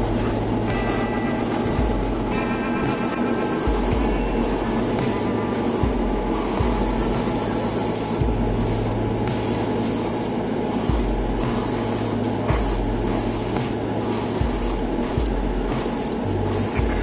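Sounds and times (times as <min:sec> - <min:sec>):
airbrush spraying hiss: 0:00.0 - 0:17.0
extractor fan hum: 0:00.0 - 0:17.0.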